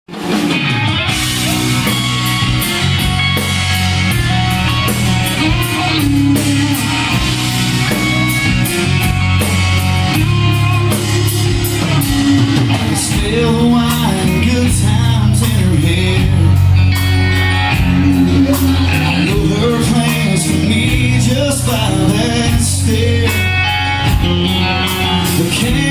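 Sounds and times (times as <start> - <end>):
rock band playing live: 0.1 - 25.9.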